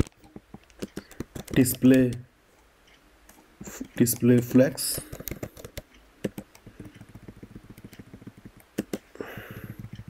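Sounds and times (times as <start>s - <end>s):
keyboard keys clicking: 0.1s - 2.2s, 3.9s - 10.0s.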